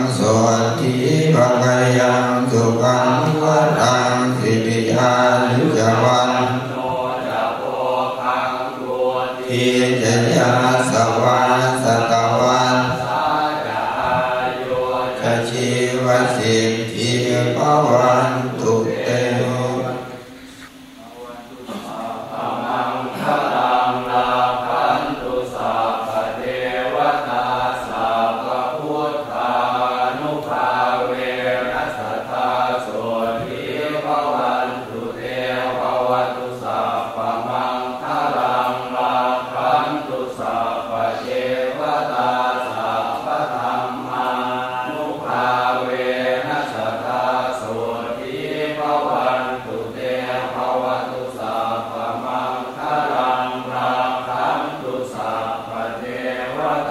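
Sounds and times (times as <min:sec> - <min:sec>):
voices chanting: 0:00.0 - 0:56.9.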